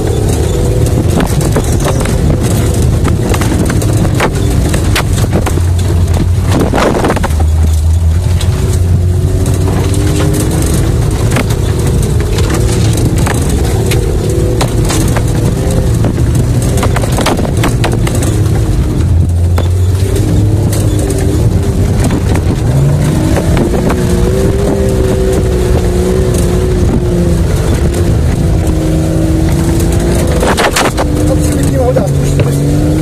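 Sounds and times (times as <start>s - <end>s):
knocks and rattles: 0.0s - 33.0s
off-road vehicle engine revving: 0.0s - 33.0s.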